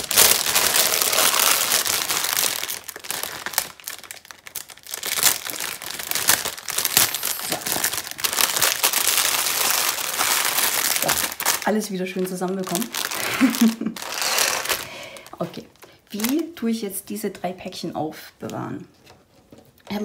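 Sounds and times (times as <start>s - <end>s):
plastic bags crinkling: 0.0s - 16.8s.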